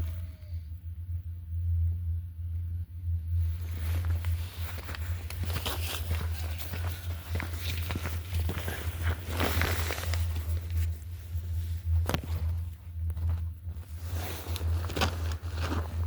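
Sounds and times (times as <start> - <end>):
car engine idling exhaust drone: 0.0 - 16.0.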